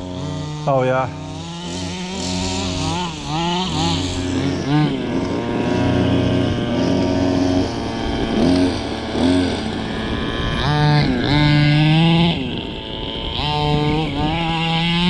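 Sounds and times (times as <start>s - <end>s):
small engines idling and revving: 0.0s - 15.0s.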